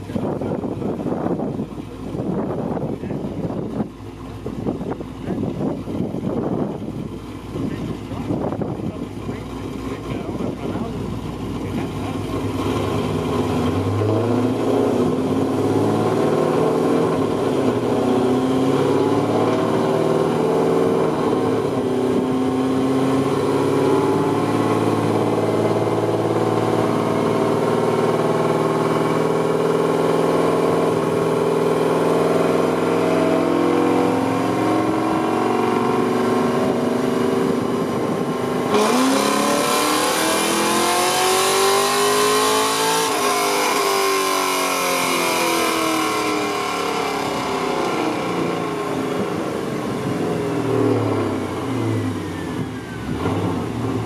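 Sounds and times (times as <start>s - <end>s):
car engine revving hard: 7.5s - 54.0s.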